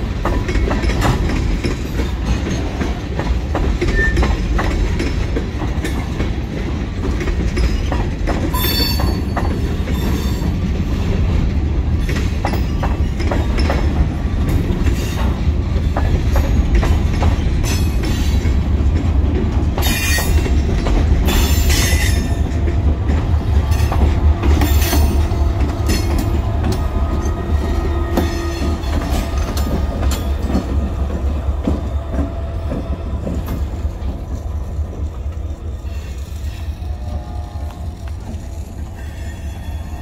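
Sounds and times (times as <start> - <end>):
diesel locomotive passing: 0.0 - 40.0
freight train rolling over rails: 0.0 - 40.0
train wheels clacking: 0.0 - 40.0.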